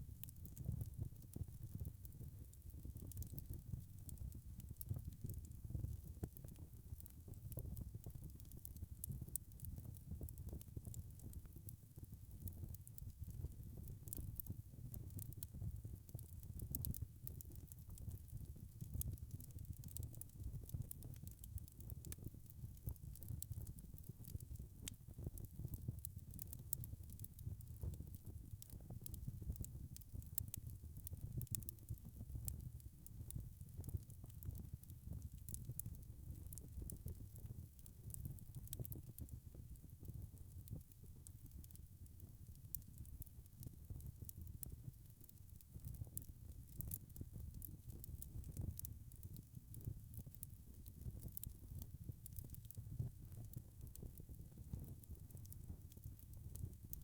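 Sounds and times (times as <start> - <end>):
wood fire crackling: 0.2 - 57.0.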